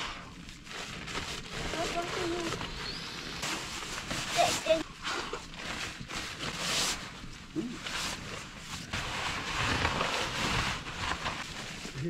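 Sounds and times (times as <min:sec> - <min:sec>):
nylon sleeping bags rustling: 0:00.0 - 0:12.0.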